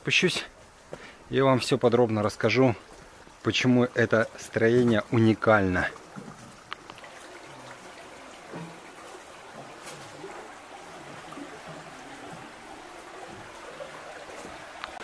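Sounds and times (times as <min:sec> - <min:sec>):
soft rushing outdoor ambience: 0:00.0 - 0:15.0.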